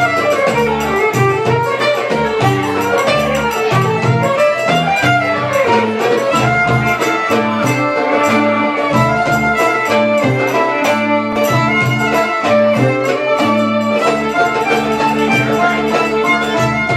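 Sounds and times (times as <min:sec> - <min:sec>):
bass: 0:00.0 - 0:16.9
plucked strings: 0:00.0 - 0:16.9
steady drum beat: 0:00.0 - 0:16.9
violin melody: 0:00.0 - 0:16.9.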